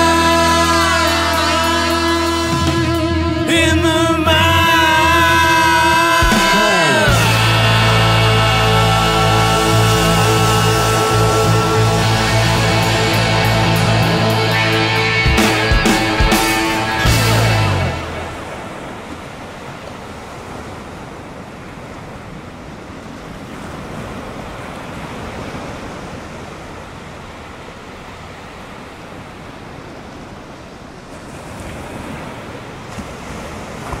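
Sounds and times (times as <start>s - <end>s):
surf breaking on beach: 0.0s - 34.0s
wind: 0.0s - 34.0s.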